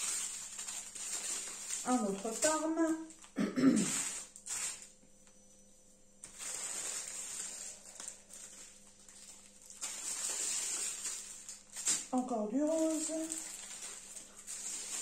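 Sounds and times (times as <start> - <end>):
small plastic bags rustling: 0.0 - 5.0, 6.2 - 15.0.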